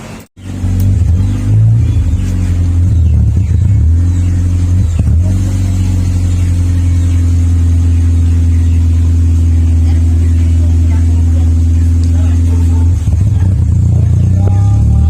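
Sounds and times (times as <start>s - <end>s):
car engine idling deep exhaust: 0.0s - 15.0s.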